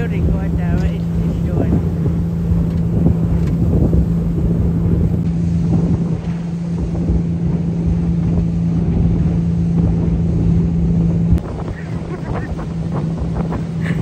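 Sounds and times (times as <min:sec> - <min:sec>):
motorboat engine running: 0:00.0 - 0:14.0
wind buffeting microphone: 0:00.0 - 0:14.0.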